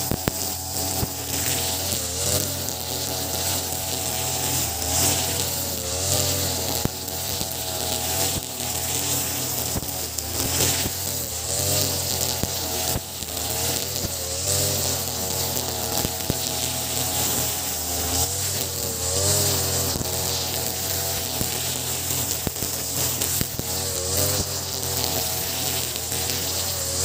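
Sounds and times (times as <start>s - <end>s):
brush cutter engine running: 0.0s - 27.0s
hiss of spinning line: 0.0s - 27.0s
line striking grass ticks: 0.0s - 27.0s.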